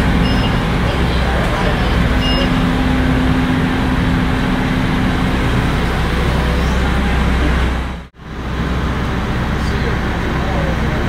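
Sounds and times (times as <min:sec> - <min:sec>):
ferry engines rumbling: 0:00.0 - 0:11.0
steady hum: 0:00.0 - 0:11.0.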